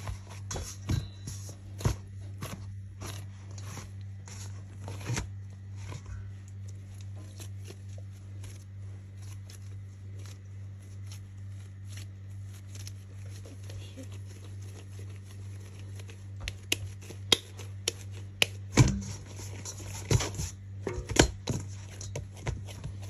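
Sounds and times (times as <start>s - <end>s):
dough squishing and slapping: 0.0s - 23.0s
steady low hum: 0.0s - 23.0s.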